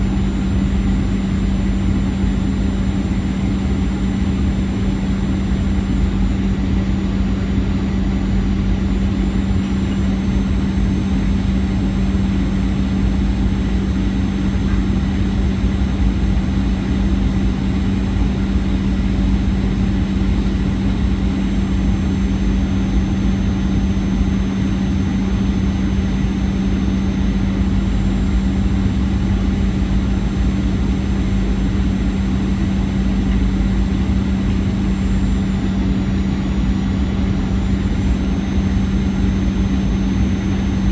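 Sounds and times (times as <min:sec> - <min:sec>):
airliner engine drone: 0:00.0 - 0:40.9.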